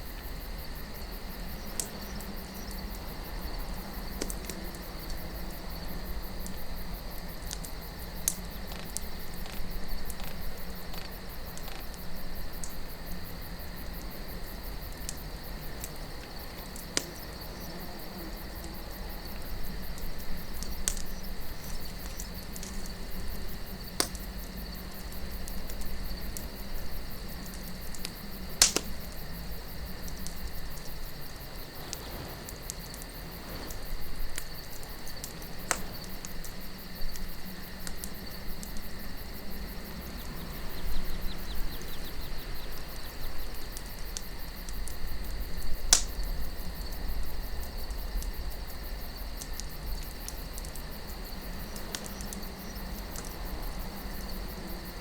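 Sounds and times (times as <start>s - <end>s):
campfire crackling and popping: 0.0s - 55.0s
crickets chirring: 0.0s - 55.0s
low wind rumble: 0.0s - 55.0s.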